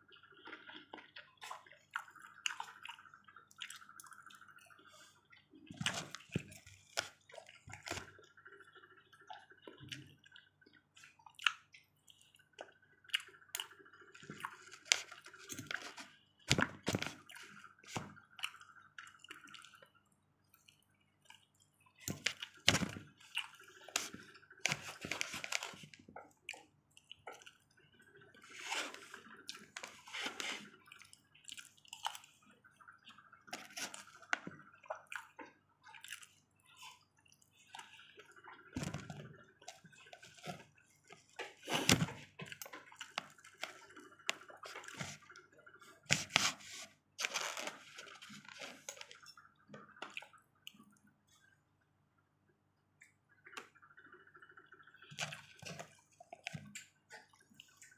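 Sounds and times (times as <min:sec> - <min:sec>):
wet chewing and mouth sounds: 0:00.1 - 0:51.6, 0:54.6 - 0:57.9.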